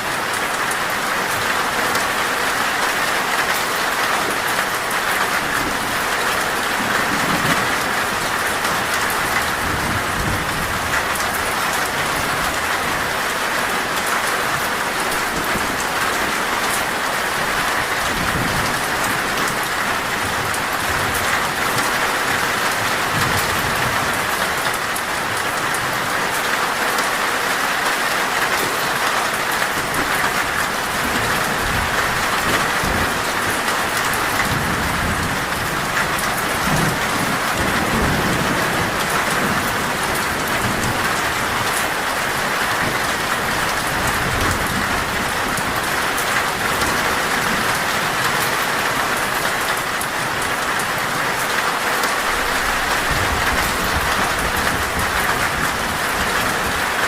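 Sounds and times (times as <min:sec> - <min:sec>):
heavy rain on metal roof: 0:00.0 - 0:57.0.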